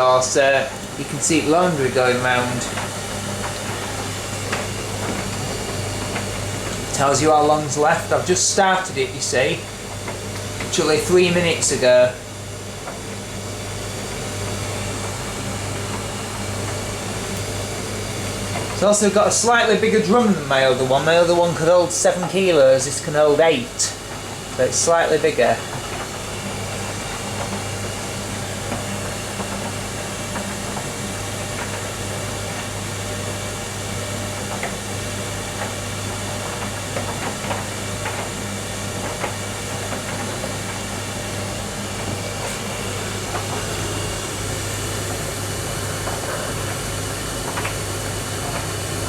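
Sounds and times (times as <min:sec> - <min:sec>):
tumble dryer humming: 0:00.0 - 0:49.0.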